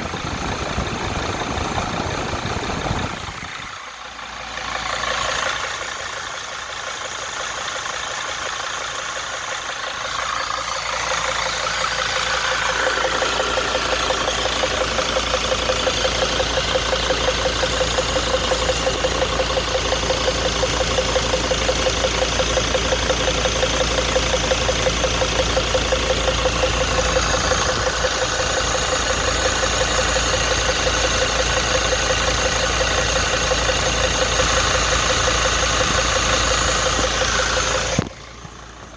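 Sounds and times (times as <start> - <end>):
van engine idling: 0.0 - 38.9.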